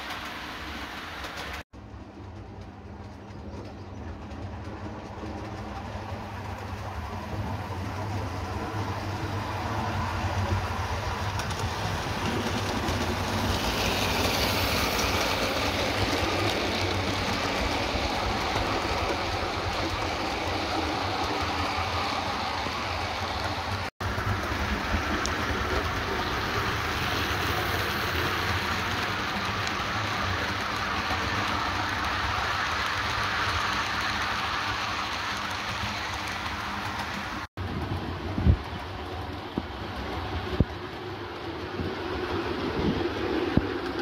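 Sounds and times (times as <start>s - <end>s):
model train wheels rumbling on rail: 0.0s - 44.0s.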